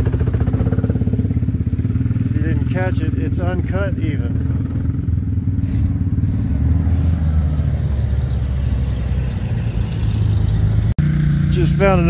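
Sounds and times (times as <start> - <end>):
vehicle engine running at low revs: 0.0 - 12.0.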